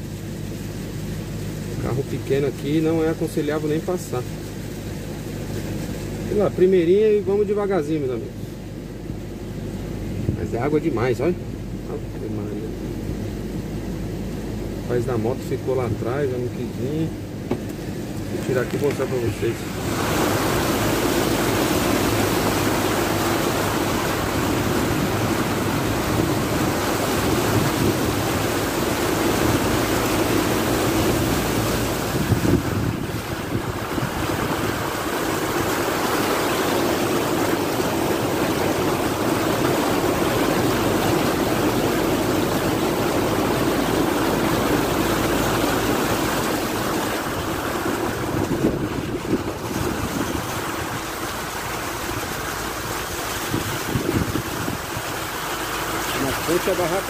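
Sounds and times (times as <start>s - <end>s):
car engine humming: 0.0s - 57.0s
car tyres splashing through water: 0.0s - 57.0s.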